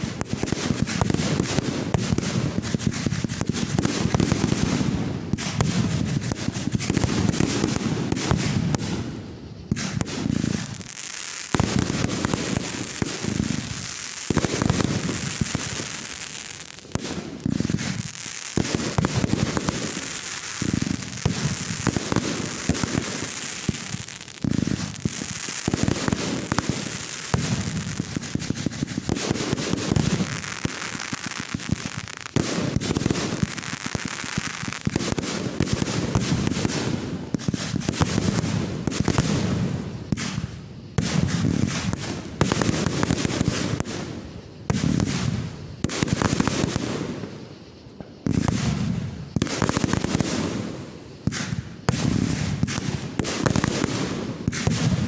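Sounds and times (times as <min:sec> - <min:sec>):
deep fireworks booms: 0:00.0 - 0:10.9, 0:11.5 - 0:55.0
fireworks crackling and banging: 0:00.0 - 0:55.0.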